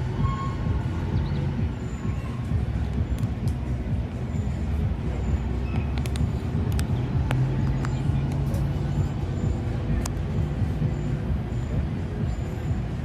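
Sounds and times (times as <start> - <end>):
low engine running: 0.0 - 13.0.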